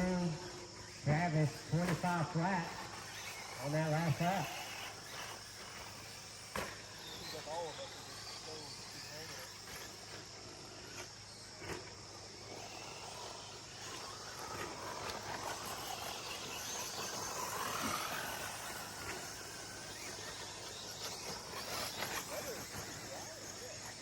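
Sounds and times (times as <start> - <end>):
rc trucks motor whine: 0.0 - 24.0.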